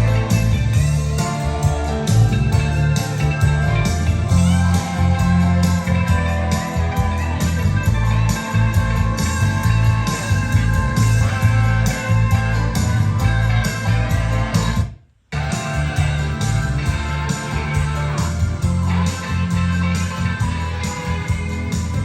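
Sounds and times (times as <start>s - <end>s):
bass: 0.0s - 22.0s
electric guitar: 0.0s - 22.0s
rock song: 0.0s - 22.0s
steady drum beat: 0.0s - 22.0s.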